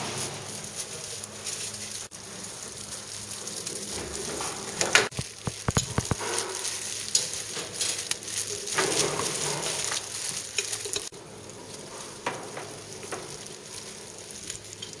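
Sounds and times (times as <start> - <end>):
plastic gloves rustling: 0.0 - 15.0.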